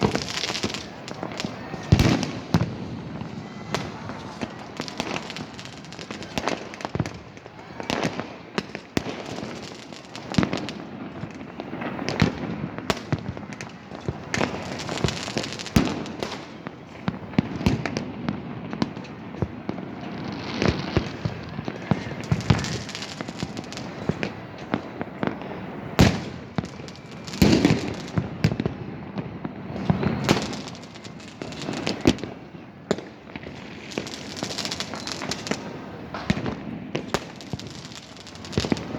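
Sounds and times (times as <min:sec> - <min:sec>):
distant firework bursts: 0:00.0 - 0:38.9
firecrackers banging and crackling: 0:00.0 - 0:38.9
loud firework reports: 0:00.0 - 0:38.9.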